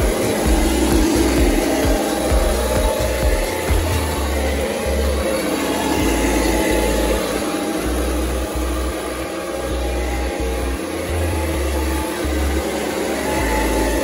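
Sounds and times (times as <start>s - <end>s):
toy tank motors whirring: 0.0s - 14.0s.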